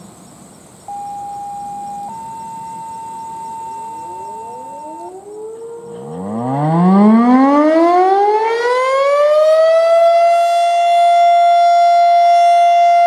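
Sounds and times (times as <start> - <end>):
faint distant siren: 0.9 - 13.0
steady siren tone: 0.9 - 13.0
warning siren winding up: 2.0 - 13.0.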